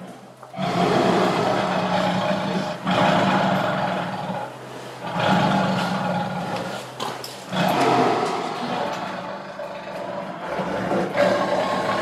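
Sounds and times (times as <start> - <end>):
tiger roaring: 0.5 - 6.9, 7.5 - 12.0.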